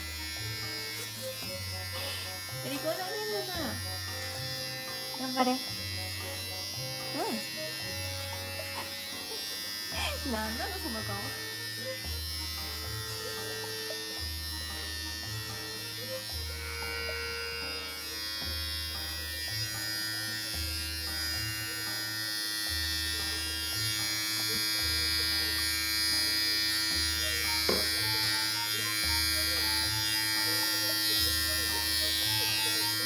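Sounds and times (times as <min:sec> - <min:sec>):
electric hair clippers buzzing: 0:00.0 - 0:33.0.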